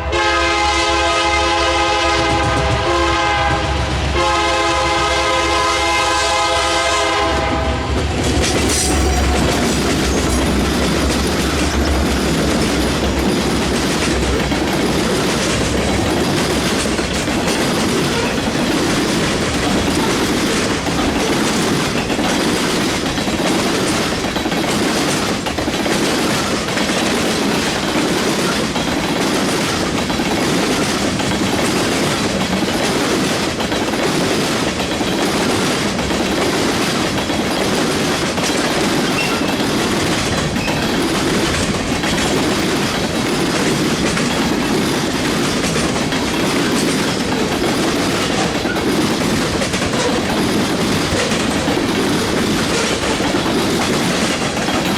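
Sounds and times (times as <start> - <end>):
train wheels rumbling on rail: 0.0 - 54.9
wheels clicking over rail joints: 7.2 - 54.9.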